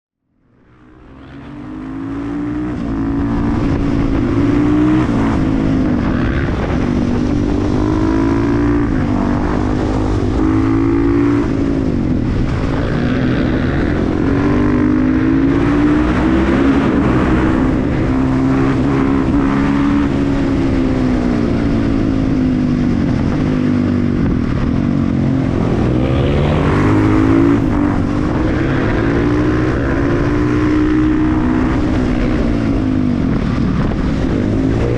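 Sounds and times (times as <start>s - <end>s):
motorcycle engine revving: 0.8s - 34.9s.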